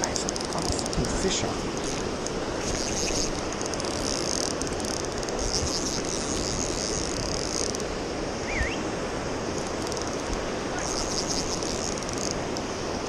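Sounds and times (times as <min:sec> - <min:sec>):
fishing reel drag buzzing: 0:00.0 - 0:07.9, 0:09.6 - 0:12.8.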